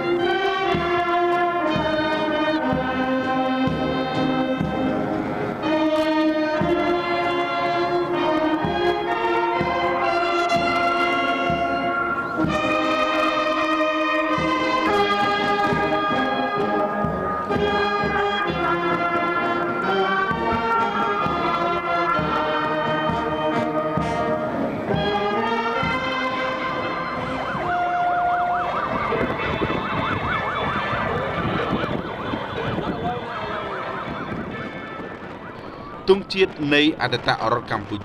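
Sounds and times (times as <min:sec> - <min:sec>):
brass band playing: 0:00.0 - 0:36.5
crowd noise: 0:00.0 - 0:38.0
police motorcycle sirens: 0:00.0 - 0:38.0.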